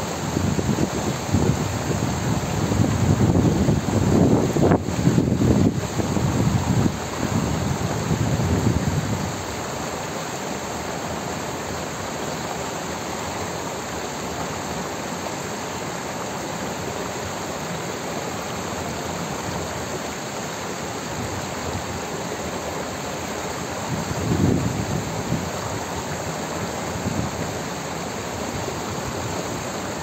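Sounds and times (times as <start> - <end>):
water rushing down rock cascade: 0.0 - 30.0.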